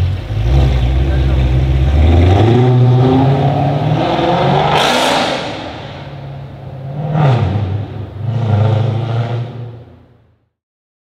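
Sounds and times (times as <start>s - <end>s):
car engine accelerating: 0.0s - 10.3s.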